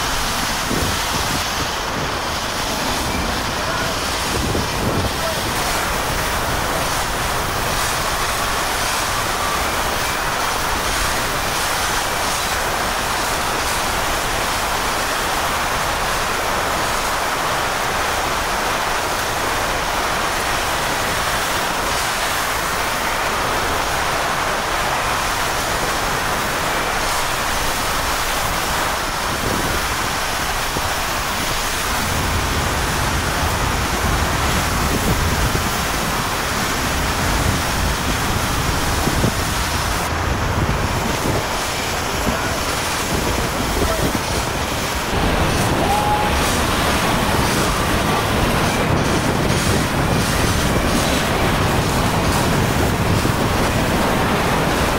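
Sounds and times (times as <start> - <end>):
heavy rain: 0.0 - 54.9
hurricane wind: 0.0 - 54.9.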